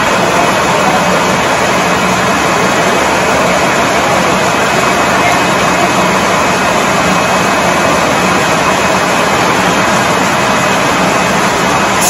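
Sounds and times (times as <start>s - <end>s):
sawmill machinery din: 0.0s - 12.0s.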